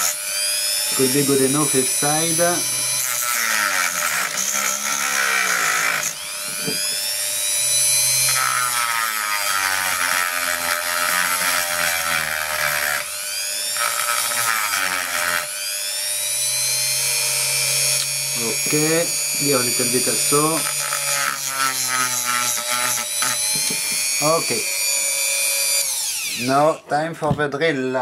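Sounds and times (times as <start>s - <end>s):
rotary tool grinding and whining: 0.0s - 27.0s.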